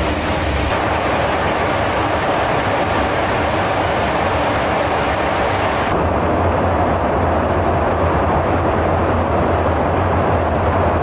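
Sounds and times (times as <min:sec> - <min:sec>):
aircraft cabin engine roar: 0:00.0 - 0:11.0
low hum: 0:00.0 - 0:11.0.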